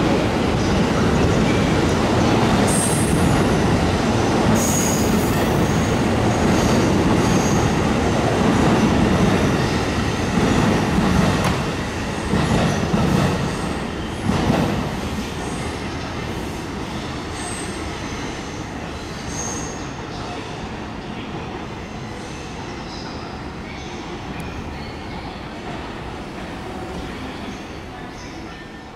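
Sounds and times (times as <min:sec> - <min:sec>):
train wheel and track noise: 0:00.0 - 0:28.9.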